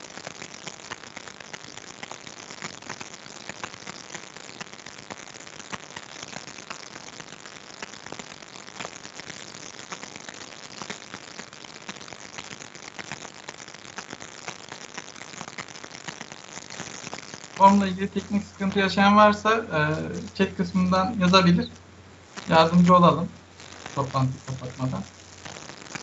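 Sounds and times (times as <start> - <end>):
crackling static with clicks and pops: 0.0 - 26.0.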